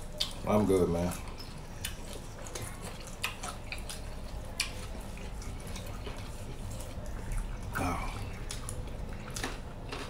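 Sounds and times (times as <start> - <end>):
wet mouth eating sounds: 1.1 - 10.0.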